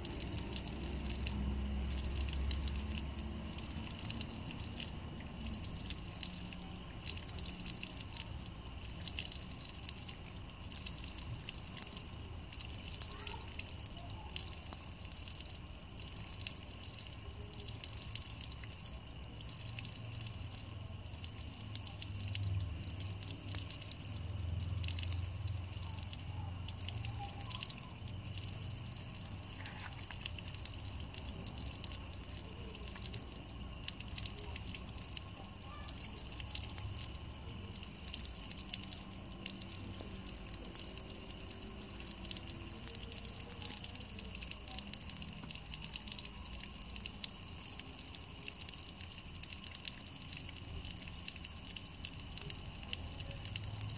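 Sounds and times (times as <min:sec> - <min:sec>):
water dripping off rock: 0:00.0 - 0:53.9.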